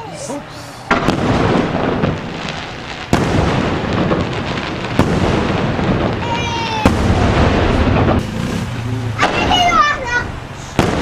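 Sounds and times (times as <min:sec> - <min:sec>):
fireworks crackling and rumbling: 0:00.0 - 0:11.0
firework bangs: 0:00.8 - 0:11.0.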